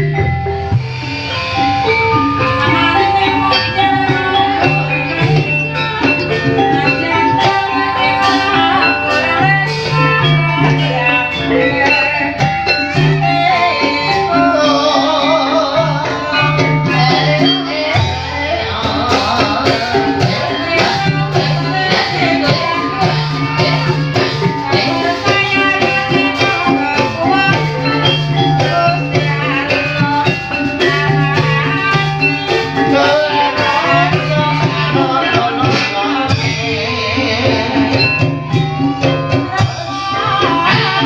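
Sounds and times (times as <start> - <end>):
ensemble of pitched instruments and drums: 0.0 - 41.0
person singing with wavering voice: 0.0 - 41.0.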